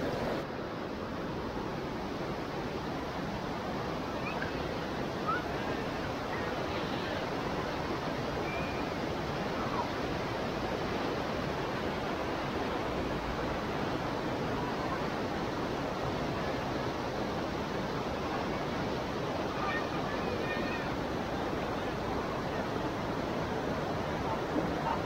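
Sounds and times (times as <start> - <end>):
river rushing over boulders: 0.0 - 25.0.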